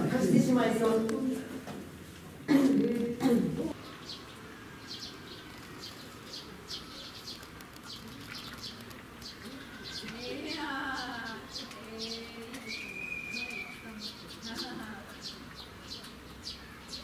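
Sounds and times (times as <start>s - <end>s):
murmur of voices: 0.0s - 17.0s.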